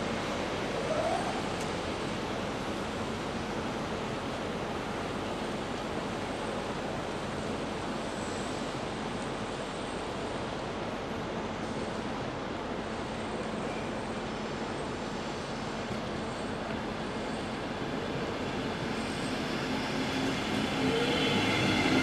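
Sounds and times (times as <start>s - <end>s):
railway station ambient noise: 0.0s - 22.0s.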